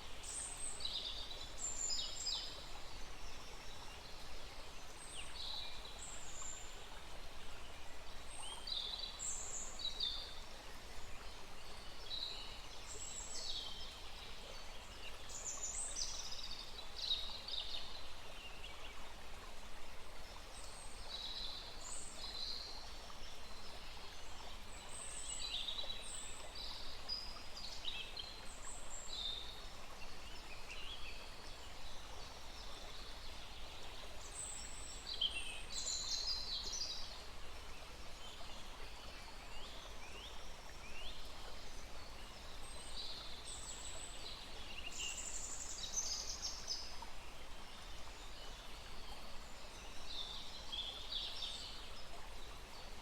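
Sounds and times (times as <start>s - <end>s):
small stream rushing: 0.0s - 53.0s.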